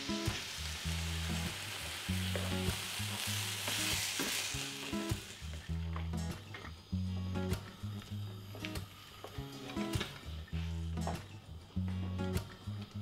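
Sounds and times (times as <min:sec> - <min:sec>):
sauce sizzling in a pan: 0:00.0 - 0:10.9
background music with bass: 0:00.0 - 0:13.0.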